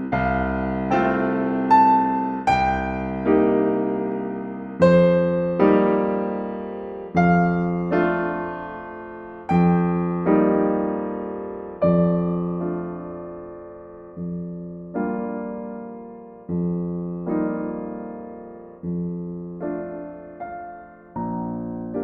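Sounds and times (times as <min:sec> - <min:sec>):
slow solo piano chords: 0:00.0 - 0:22.0.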